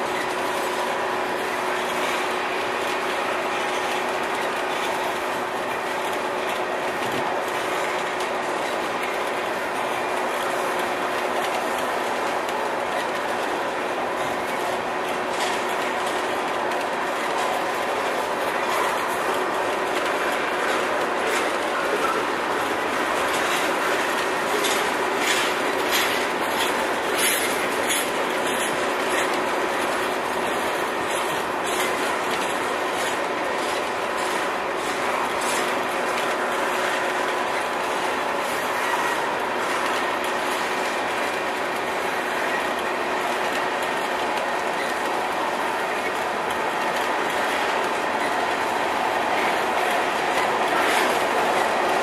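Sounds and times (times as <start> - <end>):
train wheels clattering on rails: 0.0 - 52.0
clicks over rail joints: 3.8 - 52.0.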